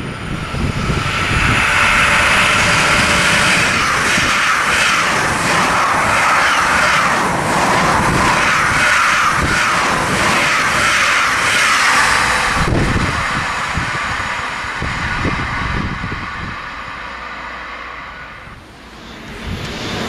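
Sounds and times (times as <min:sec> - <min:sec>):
fast train passing: 0:00.0 - 0:20.0.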